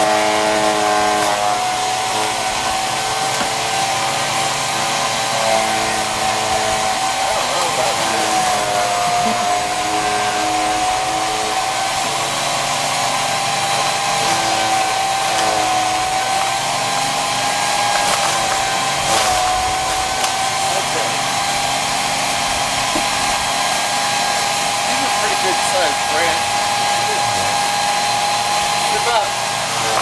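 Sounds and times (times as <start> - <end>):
chipper shredder motor whining: 0.0 - 30.0.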